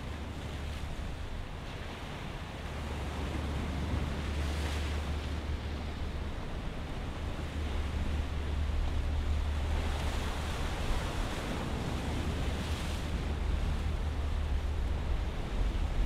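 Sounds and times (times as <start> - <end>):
choppy sea washing: 0.0 - 16.0
wind rumble on microphone: 0.0 - 16.0.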